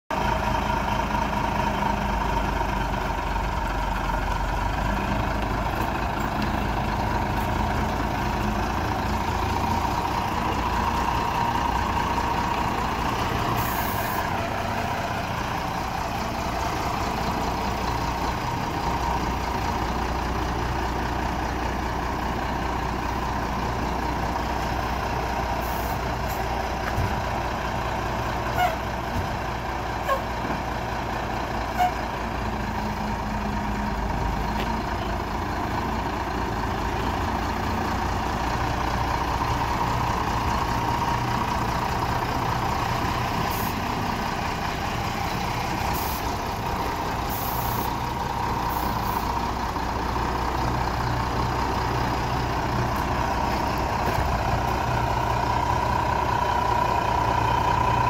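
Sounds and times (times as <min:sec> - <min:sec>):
diesel truck engine idling: 0:00.1 - 0:58.0.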